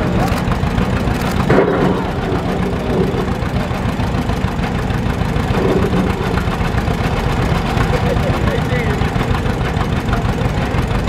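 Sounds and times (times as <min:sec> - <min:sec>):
tractor engine pulsing: 0:00.0 - 0:11.0.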